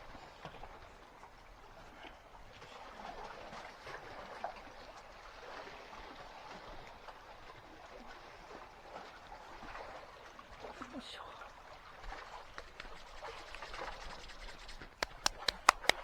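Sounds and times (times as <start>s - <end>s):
sea water lapping: 1.2s - 16.0s.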